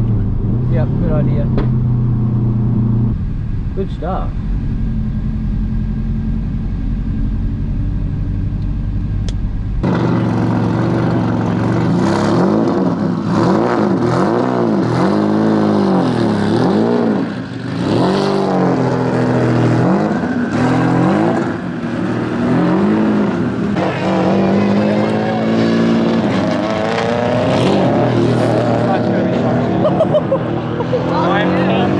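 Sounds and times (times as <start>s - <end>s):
car engine revving: 0.0s - 29.8s.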